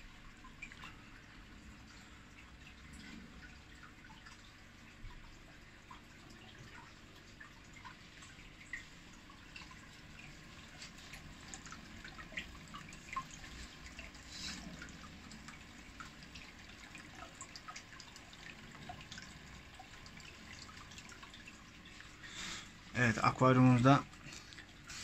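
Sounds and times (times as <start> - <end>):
aquarium water bubbling: 0.0 - 25.0
small water drips: 0.0 - 25.0.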